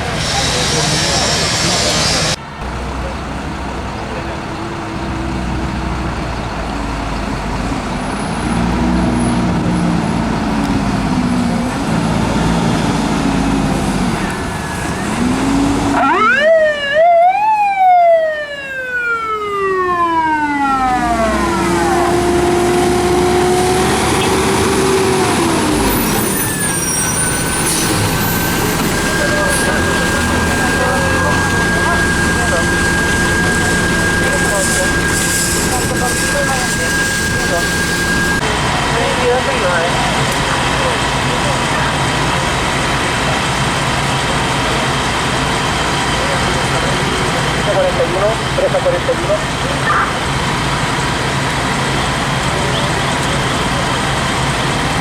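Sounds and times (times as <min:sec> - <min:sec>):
fire engine siren wailing: 0:00.0 - 0:55.0
fire truck engine revving: 0:00.0 - 0:55.0.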